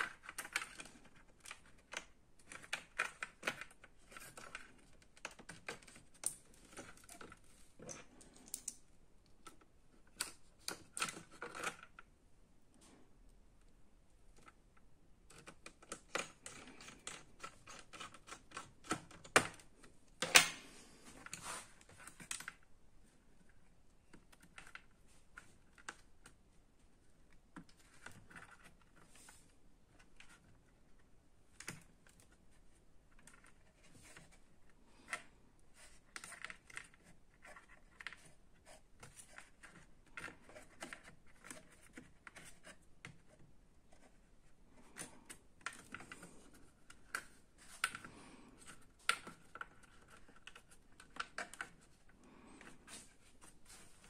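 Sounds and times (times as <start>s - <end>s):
hands handling laptop parts: 0.0s - 12.1s, 14.2s - 54.0s.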